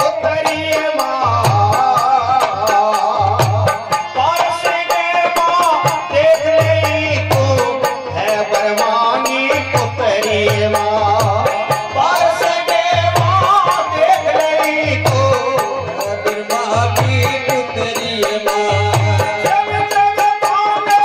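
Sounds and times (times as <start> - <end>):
drum: 0.0 - 21.0
harmonium: 0.0 - 21.0
man singing: 0.0 - 21.0.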